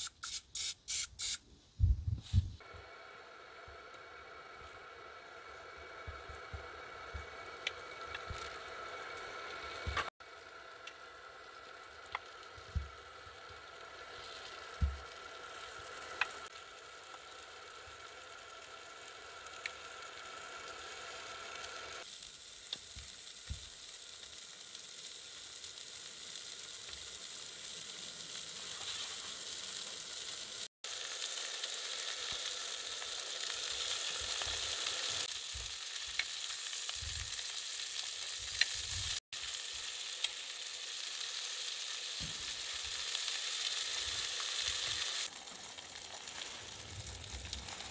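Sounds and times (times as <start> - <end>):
meat sizzling in a pan: 2.9 - 47.9.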